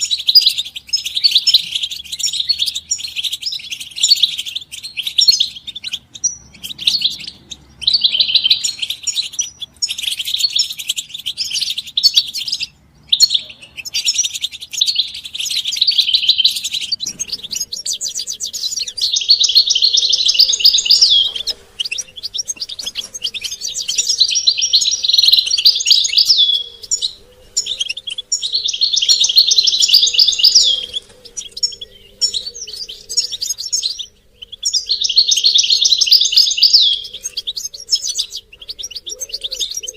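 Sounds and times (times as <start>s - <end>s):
goldfinches twittering: 0.0s - 39.9s.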